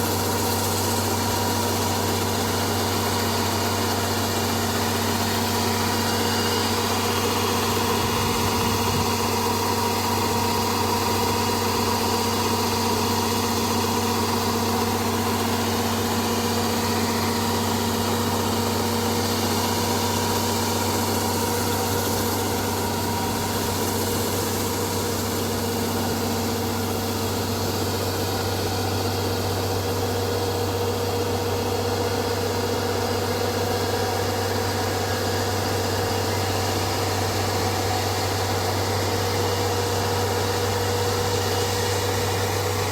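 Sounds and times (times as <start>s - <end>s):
harvester engine humming: 0.0s - 42.9s.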